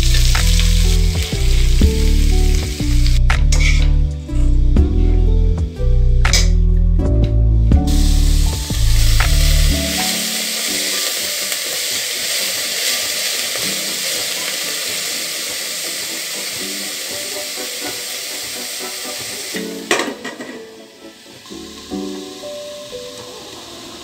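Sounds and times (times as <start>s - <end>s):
vegetables sizzling in hot oil: 0.0s - 3.9s, 7.8s - 24.0s
background music: 0.0s - 24.0s.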